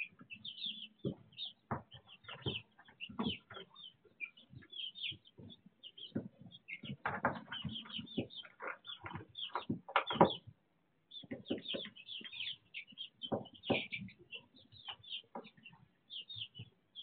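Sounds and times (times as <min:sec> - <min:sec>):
chicks peeping: 0:00.0 - 0:17.0
chicks scratching in wood shavings: 0:00.0 - 0:17.0.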